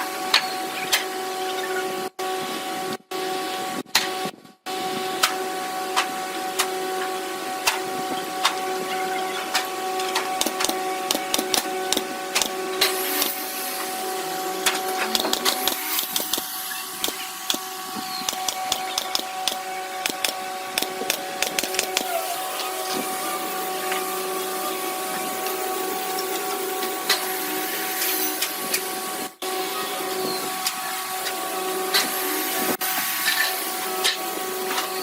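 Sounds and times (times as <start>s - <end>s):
small electric machine humming: 4.7s - 35.0s.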